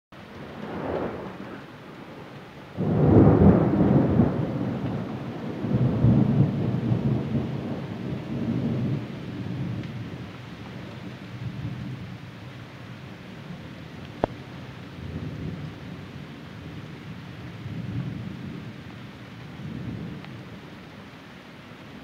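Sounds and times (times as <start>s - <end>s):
thunder rumbling: 0.2s - 20.8s.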